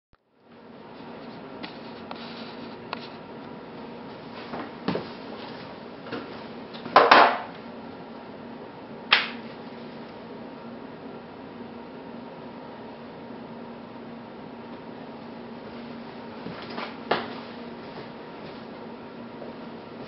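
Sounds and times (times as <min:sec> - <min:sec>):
low steady hum: 0:00.2 - 0:20.0.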